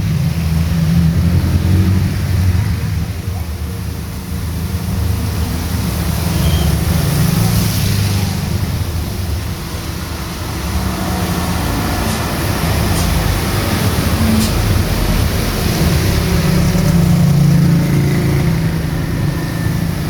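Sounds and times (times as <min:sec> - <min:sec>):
heavy rain pouring on street: 0:00.0 - 0:20.0
traffic passing on wet road: 0:00.0 - 0:20.0.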